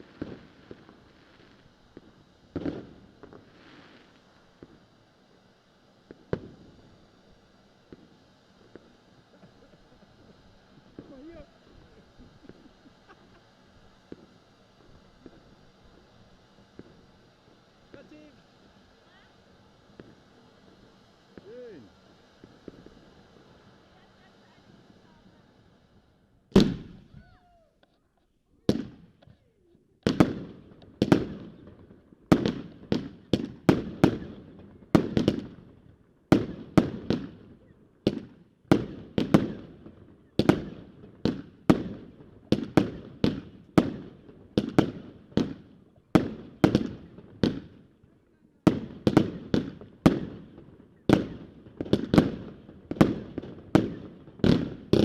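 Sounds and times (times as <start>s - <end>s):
firework bangs: 0.0s - 4.9s, 6.0s - 27.7s, 28.7s - 29.3s, 30.0s - 47.9s, 48.6s - 55.0s
firework battery firing: 0.0s - 55.0s.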